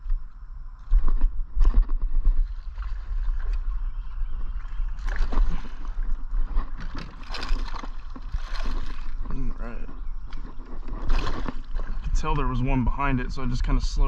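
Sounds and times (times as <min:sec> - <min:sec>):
steady low rumble: 0:00.0 - 0:14.0
water sloshing and gurgling: 0:00.0 - 0:14.0.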